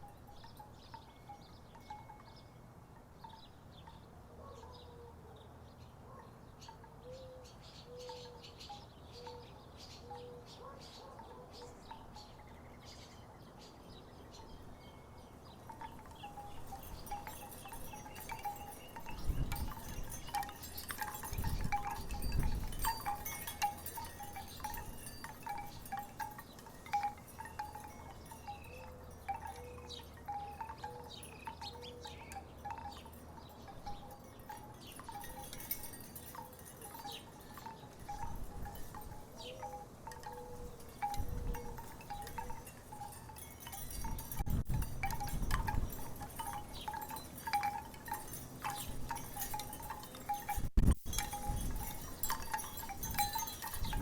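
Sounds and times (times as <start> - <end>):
wooden wind chimes clacking: 0.0 - 4.1, 14.4 - 54.0.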